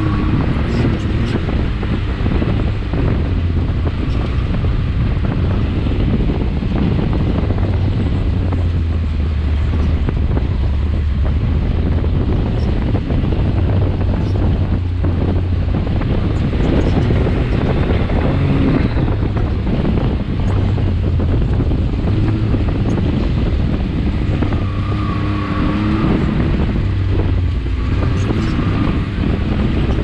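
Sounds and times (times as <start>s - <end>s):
engine low drone: 0.0s - 30.0s
wind buffeting microphone: 0.0s - 30.0s.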